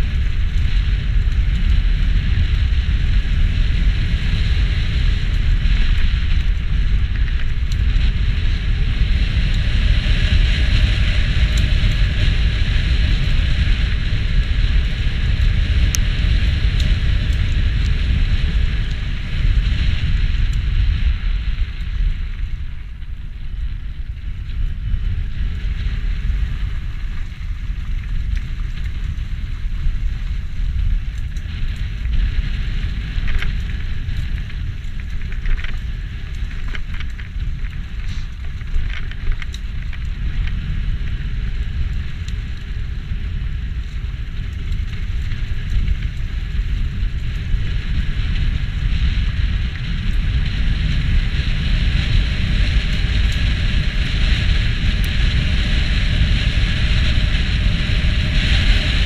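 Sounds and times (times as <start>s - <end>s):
bike clicking and rattling: 0.0s - 59.0s
tyres crackling on dirt: 0.0s - 59.0s
wind rumble on microphone: 0.0s - 59.0s.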